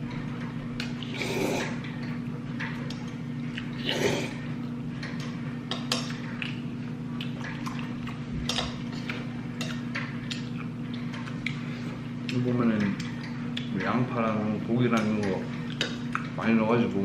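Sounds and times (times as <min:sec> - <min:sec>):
steady low hum: 0:00.0 - 0:17.0
wet food sounds: 0:00.1 - 0:17.0.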